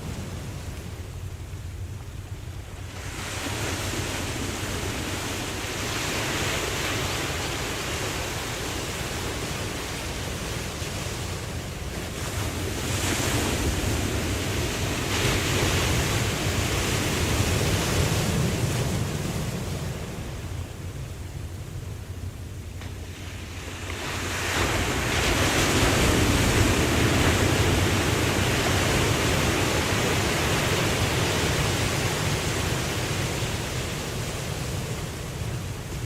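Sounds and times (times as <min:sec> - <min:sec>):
ocean waves breaking ashore: 0:00.0 - 0:36.0.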